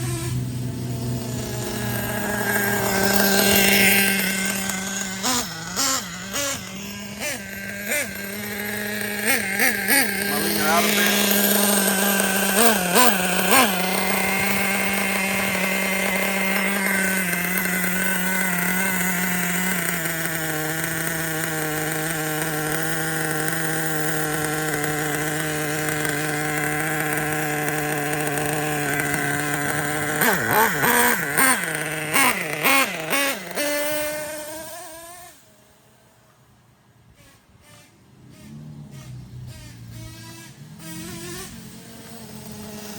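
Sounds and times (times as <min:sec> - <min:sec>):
nitro engine idling and revving: 0:00.0 - 0:42.9.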